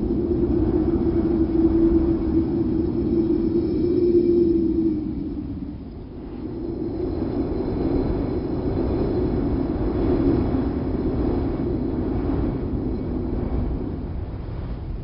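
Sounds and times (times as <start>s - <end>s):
low rushing wind: 0.0s - 15.0s.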